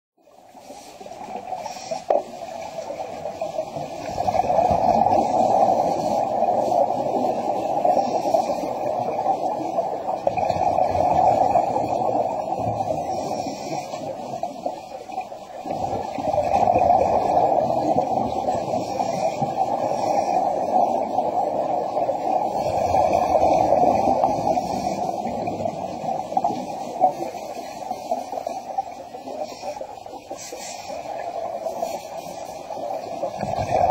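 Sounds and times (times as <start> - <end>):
muffled underwater noise: 0.2 - 33.9.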